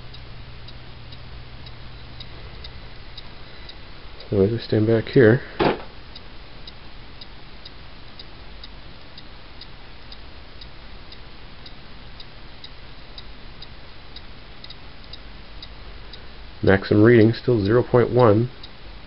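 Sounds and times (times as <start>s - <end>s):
faint high ticking: 0.0s - 5.2s, 6.0s - 18.8s
background hiss: 0.0s - 19.0s.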